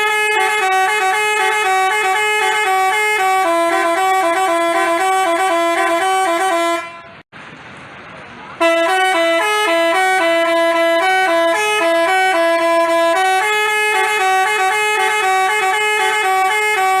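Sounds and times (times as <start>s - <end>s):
musical bus horn melody: 0.0s - 7.3s, 8.6s - 17.0s.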